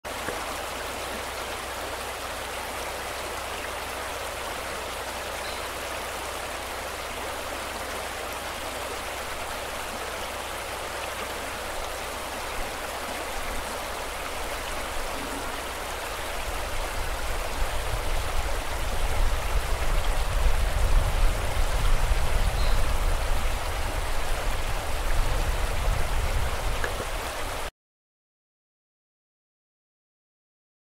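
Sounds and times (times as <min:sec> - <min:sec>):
river water rushing: 0:00.1 - 0:27.7.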